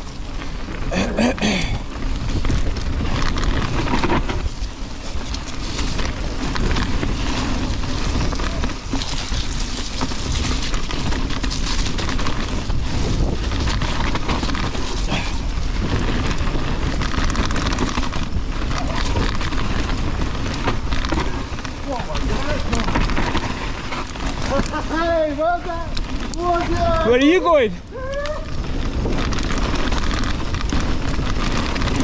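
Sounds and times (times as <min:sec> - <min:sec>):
tyres crunching on stones: 0:00.0 - 0:32.0
wind buffeting microphone: 0:00.0 - 0:32.0.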